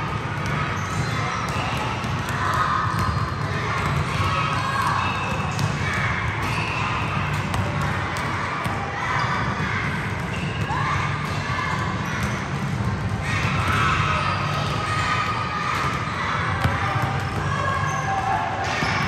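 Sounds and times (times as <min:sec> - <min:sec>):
basketballs bouncing on gym floor: 0:00.0 - 0:19.0.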